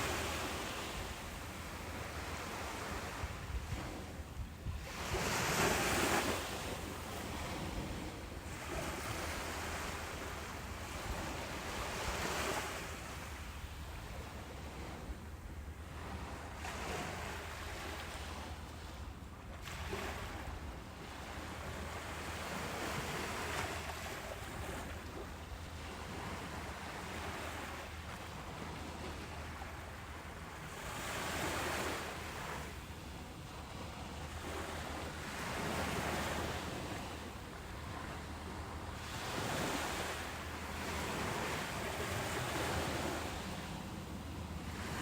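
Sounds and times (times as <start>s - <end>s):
ocean waves breaking on beach: 0.0s - 45.0s.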